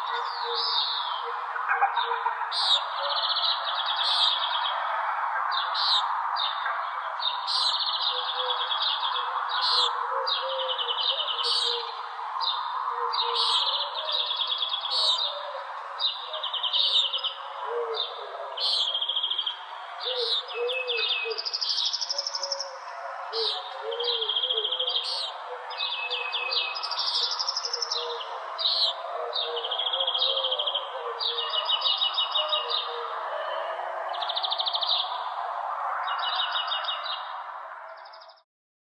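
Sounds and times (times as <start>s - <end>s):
songbirds singing trilled phrases: 0.0s - 4.7s, 5.5s - 35.3s.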